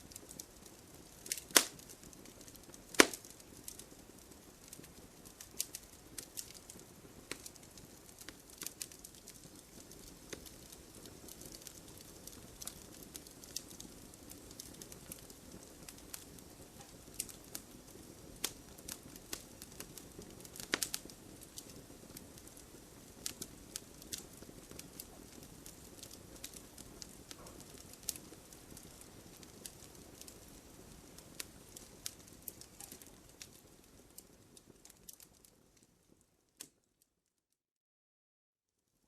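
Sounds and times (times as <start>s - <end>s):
low rush of flame: 0.0s - 36.2s
wood fire crackling and popping: 0.0s - 36.9s.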